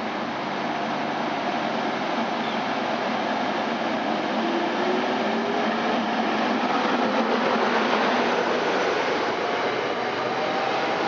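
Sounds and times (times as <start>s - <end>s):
train wheels rumbling on rail: 0.3s - 11.0s.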